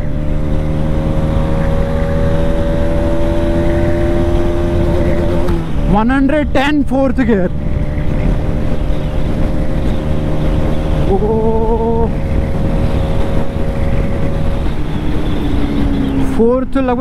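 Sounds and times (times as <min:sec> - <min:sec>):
motorcycle engine drone: 0:00.0 - 0:17.0
wind rushing over microphone: 0:00.0 - 0:17.0.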